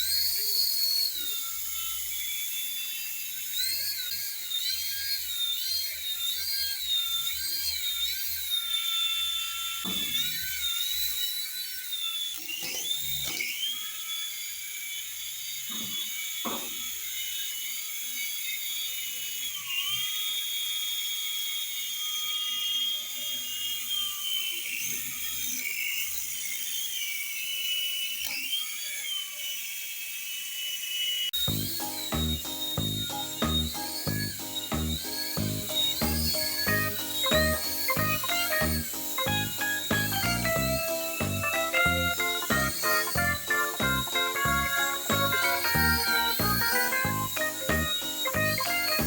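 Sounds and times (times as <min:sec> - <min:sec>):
toy helicopter motor whining: 0:00.0 - 0:49.0.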